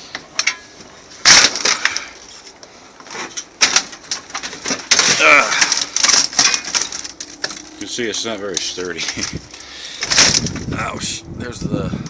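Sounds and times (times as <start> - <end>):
loose metal parts clattering: 0.0 - 10.7.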